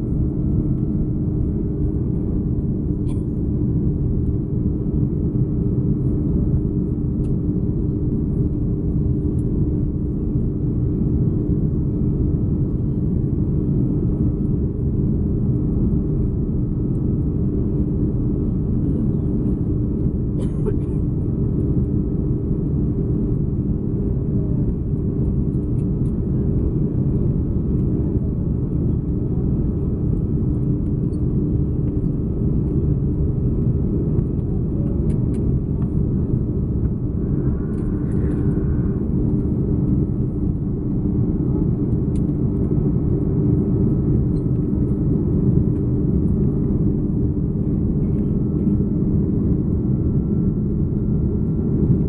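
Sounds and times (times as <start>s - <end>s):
jet engine rumble: 0.0s - 52.0s.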